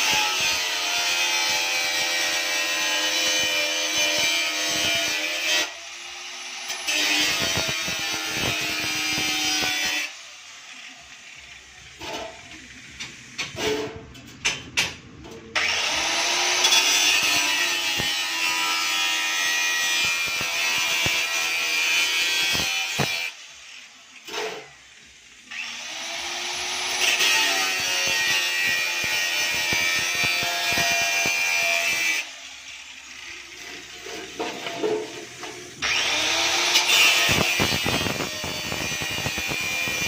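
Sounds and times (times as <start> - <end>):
angle grinder cutting metal sheet: 0.0 - 14.6, 15.2 - 40.0.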